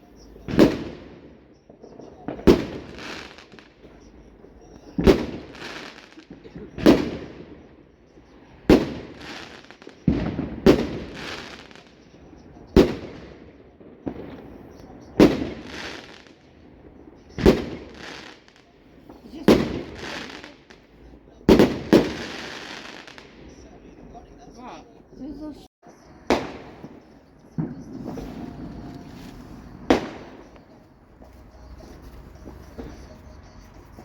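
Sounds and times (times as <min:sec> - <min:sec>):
fireworks exploding: 0:00.0 - 0:34.0.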